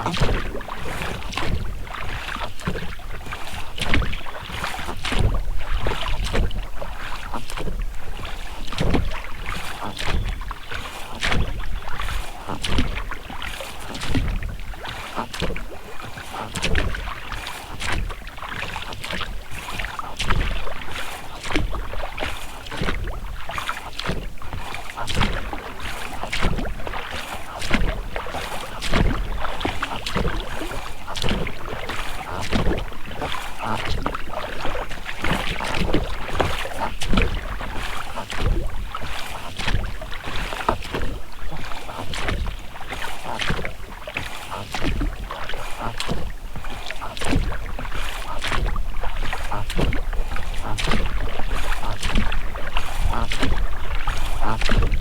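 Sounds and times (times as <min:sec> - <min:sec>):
oar blades splashing: 0:00.0 - 0:55.0
oars creaking in rowlocks: 0:00.0 - 0:55.0
water washing: 0:00.0 - 0:55.0
wind on microphone: 0:00.0 - 0:55.0.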